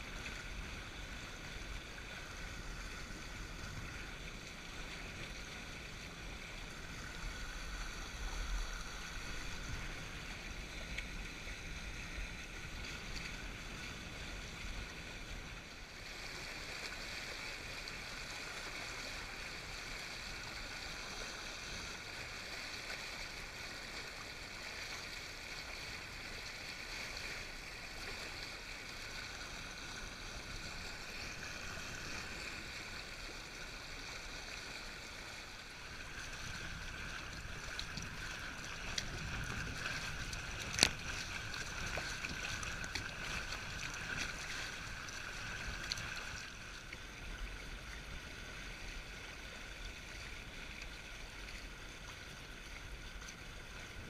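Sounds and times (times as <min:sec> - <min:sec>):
water rushing past hull: 0:00.0 - 0:54.0.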